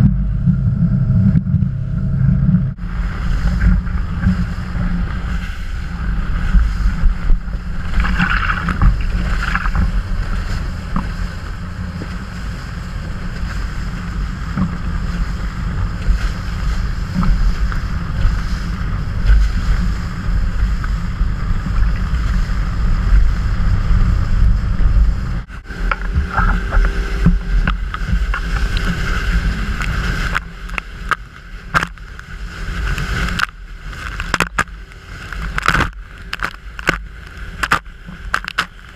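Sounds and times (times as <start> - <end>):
motorboat engine drone: 0.0 - 38.9
water noise: 0.0 - 38.9
wind on microphone: 0.0 - 38.9.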